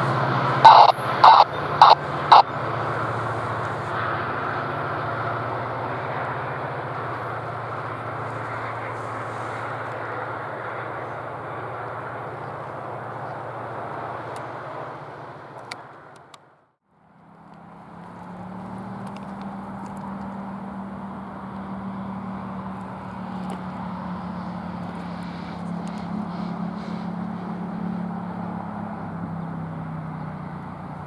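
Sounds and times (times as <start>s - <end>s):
train rumbling past: 0.0s - 16.2s, 17.6s - 31.0s.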